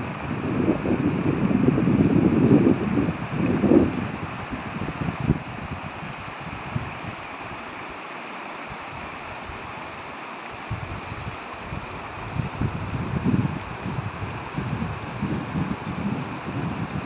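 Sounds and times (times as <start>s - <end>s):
wind buffeting microphone: 0.0s - 7.6s, 10.6s - 17.0s
river rushing over stones: 0.0s - 17.0s.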